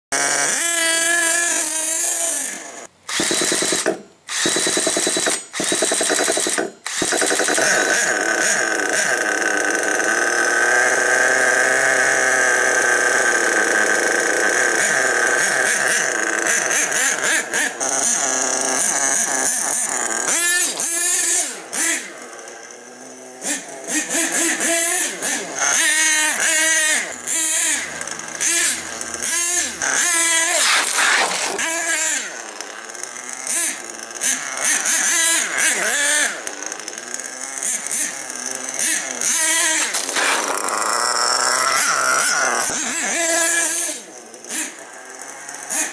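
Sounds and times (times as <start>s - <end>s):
small nitro engine revving: 0.1s - 45.9s.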